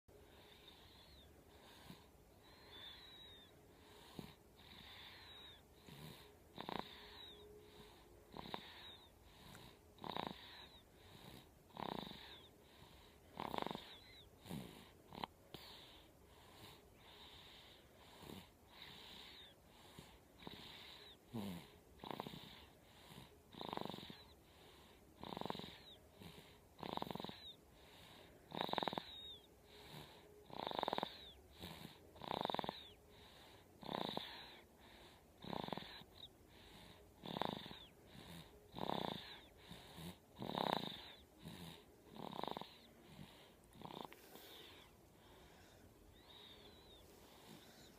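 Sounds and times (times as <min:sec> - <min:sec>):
pet snoring with wheezy whistle: 0:00.3 - 0:47.9.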